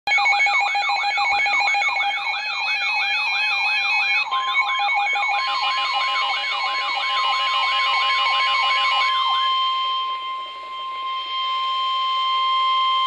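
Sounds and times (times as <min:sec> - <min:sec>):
steady electronic alert tones: 0:00.1 - 0:13.0.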